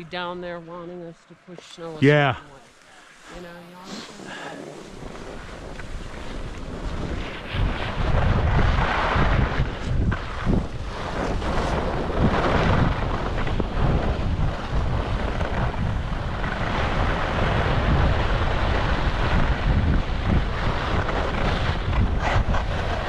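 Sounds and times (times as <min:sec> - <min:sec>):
wind buffeting microphone: 0:03.0 - 0:23.0.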